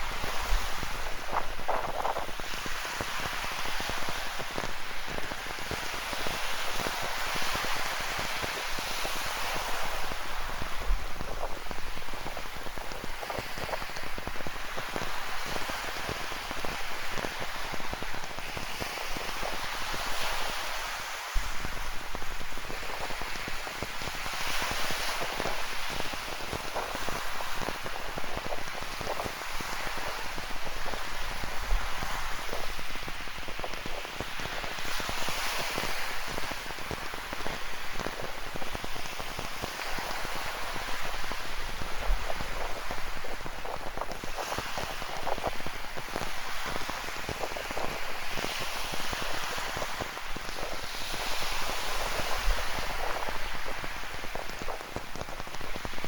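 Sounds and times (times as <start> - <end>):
ocean surf: 0.0 - 56.0.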